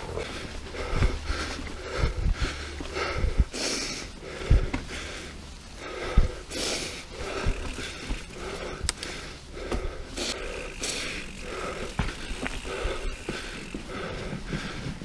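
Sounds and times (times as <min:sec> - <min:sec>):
bike knocking and rattling: 0:00.0 - 0:03.6, 0:04.2 - 0:15.0
person breathing hard: 0:00.0 - 0:15.0.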